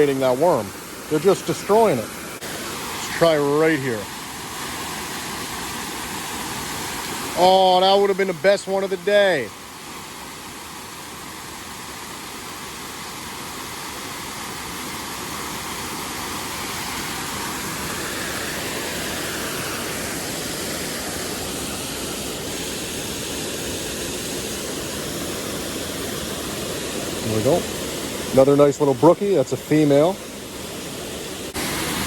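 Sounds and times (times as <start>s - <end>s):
creek water rushing: 0.0s - 32.0s
small waterfall: 0.0s - 32.0s.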